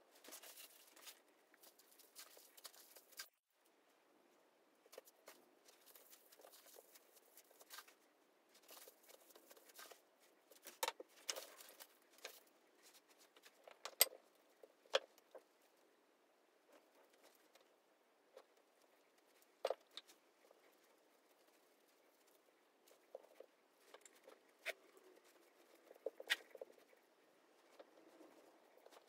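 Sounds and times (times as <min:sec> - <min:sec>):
bamboo mat rustling and clicking: 0:00.1 - 0:03.4, 0:04.8 - 0:15.7, 0:16.7 - 0:29.0.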